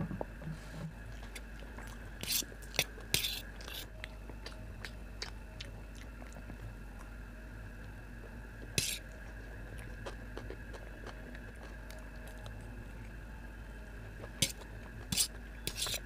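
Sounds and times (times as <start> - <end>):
chewing noodles: 1.0 - 7.2, 7.8 - 16.0.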